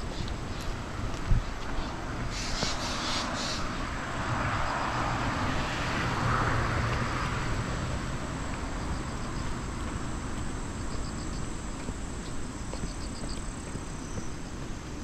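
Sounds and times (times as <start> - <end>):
wind and rain rushing: 0.0 - 15.0.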